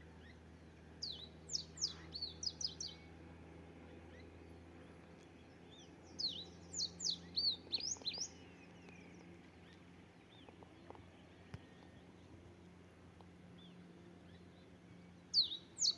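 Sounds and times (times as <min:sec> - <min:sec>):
faint low hum: 0:00.0 - 0:15.9
songbird chirping: 0:00.0 - 0:15.9.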